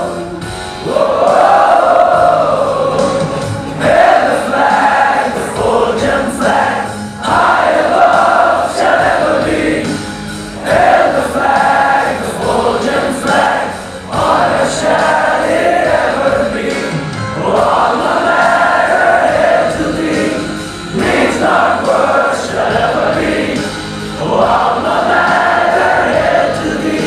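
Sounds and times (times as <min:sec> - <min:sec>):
male choir singing: 0:00.0 - 0:27.0.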